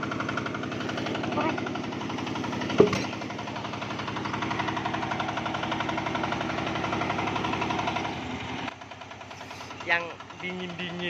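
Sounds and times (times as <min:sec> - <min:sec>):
diesel engine knocking steadily: 0:00.0 - 0:11.0.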